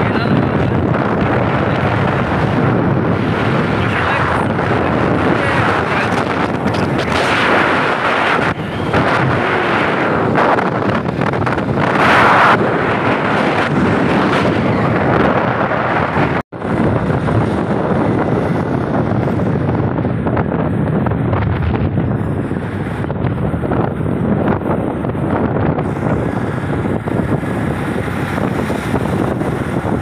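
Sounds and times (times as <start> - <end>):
motorbike engine and road noise: 0.0 - 30.0
wind on microphone: 0.0 - 30.0.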